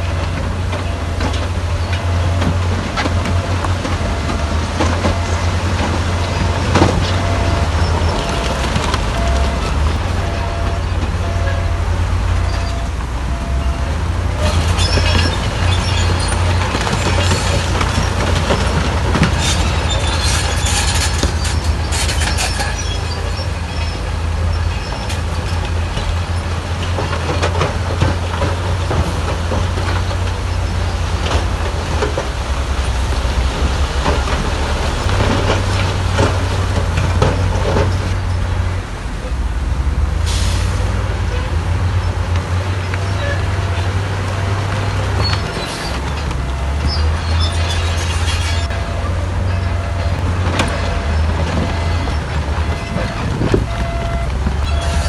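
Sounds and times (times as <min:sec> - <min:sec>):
steel and stone clanking: 0:00.0 - 0:38.6, 0:43.1 - 0:55.0
diesel engine running: 0:00.0 - 0:55.0.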